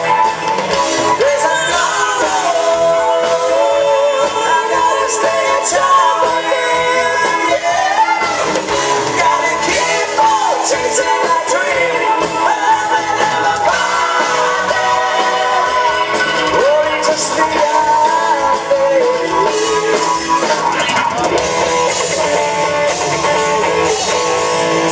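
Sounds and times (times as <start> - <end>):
rock band playing: 0.0 - 24.9
man singing into microphone: 1.1 - 21.1.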